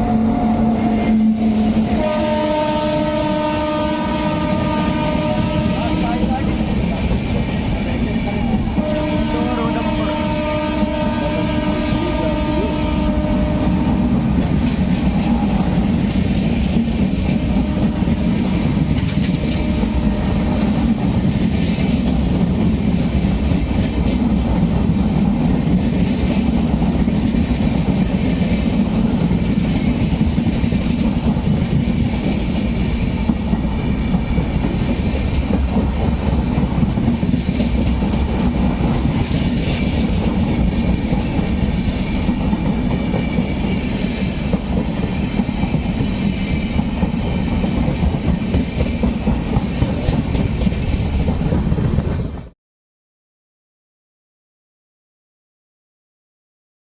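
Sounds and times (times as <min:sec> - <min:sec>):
train wheels rumbling on track: 0:00.0 - 0:52.6.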